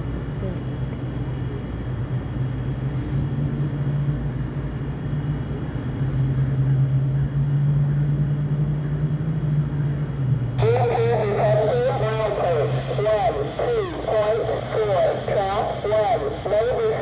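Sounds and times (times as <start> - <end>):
diesel locomotive drone: 0.0 - 17.0
train rumbling: 0.0 - 17.0.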